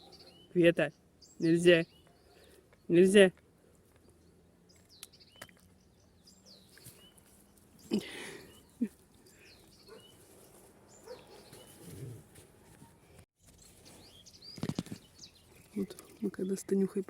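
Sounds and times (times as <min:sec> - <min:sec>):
small birds chirping: 0:00.0 - 0:12.2, 0:12.8 - 0:17.0.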